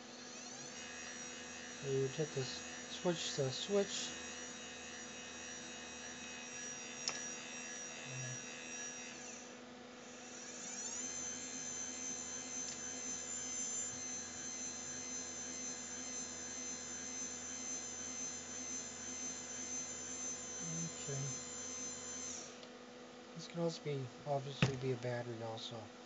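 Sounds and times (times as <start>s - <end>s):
electric motor hum and whine: 0.0s - 26.0s.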